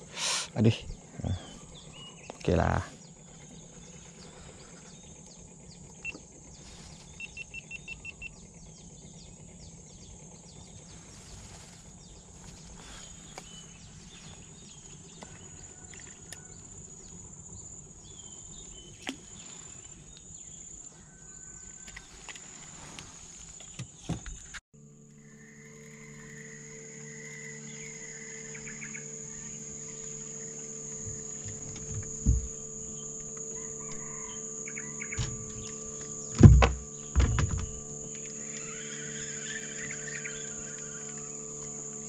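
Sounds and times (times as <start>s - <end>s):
low hum: 0.0s - 21.4s, 24.3s - 42.0s
high insect drone: 0.0s - 42.0s.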